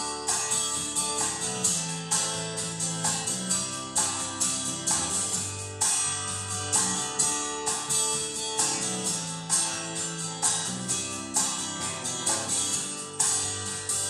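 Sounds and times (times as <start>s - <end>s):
guitar-led music over loudspeakers: 0.0s - 14.0s.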